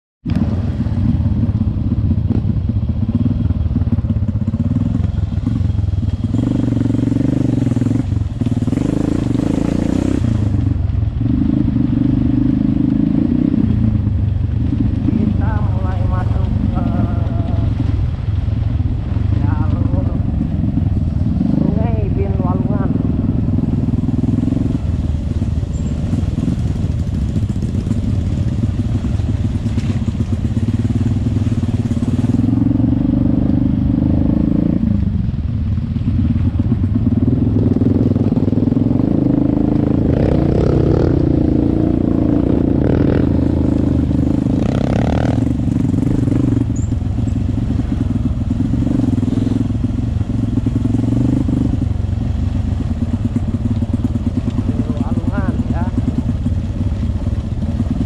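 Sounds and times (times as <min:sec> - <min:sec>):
motorcycle engine revving: 0:00.2 - 0:58.0.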